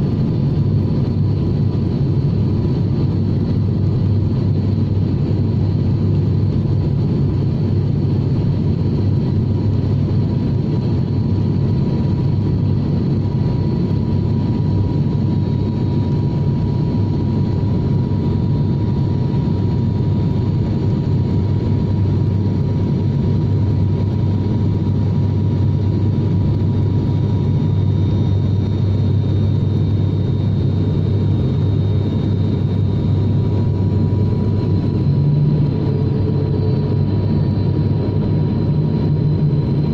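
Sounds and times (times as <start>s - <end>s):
airliner engine drone in cabin: 0.0s - 39.9s
faint steady whine: 0.0s - 39.9s.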